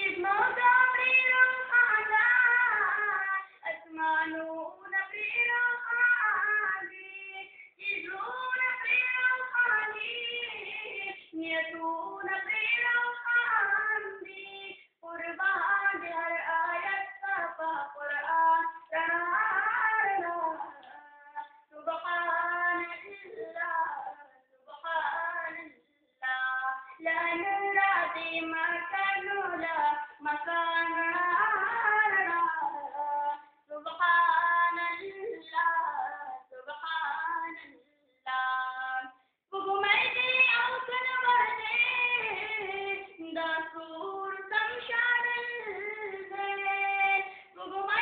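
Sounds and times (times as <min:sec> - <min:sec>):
boy singing unaccompanied: 0:00.0 - 0:48.0.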